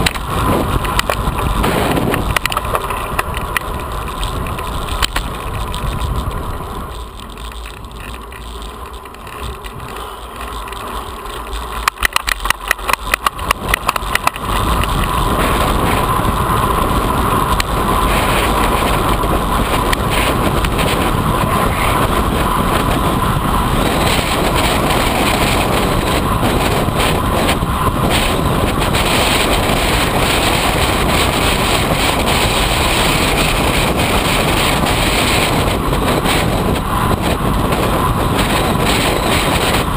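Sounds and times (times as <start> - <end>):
sharp ticks: 0.0 - 39.9
wind noise on microphone: 0.0 - 39.9.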